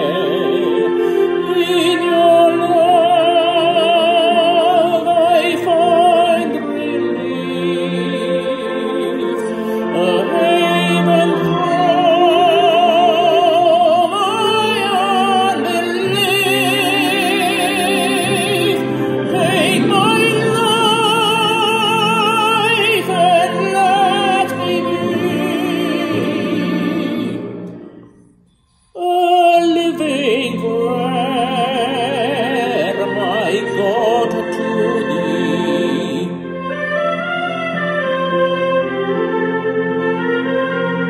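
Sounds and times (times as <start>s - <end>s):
man singing operatically: 0.0s - 27.1s, 29.0s - 36.4s.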